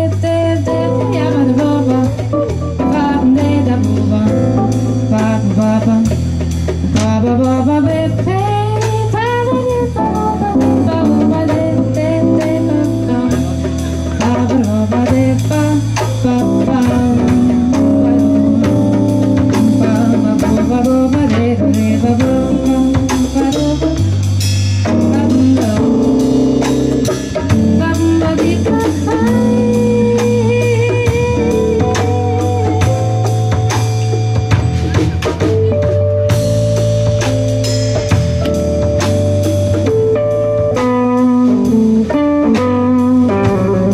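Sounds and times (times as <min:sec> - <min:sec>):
archtop guitar: 0:00.0 - 0:43.9
drum kit beat: 0:00.0 - 0:43.9
electric bass: 0:00.0 - 0:43.9
electric keyboard: 0:00.0 - 0:43.9.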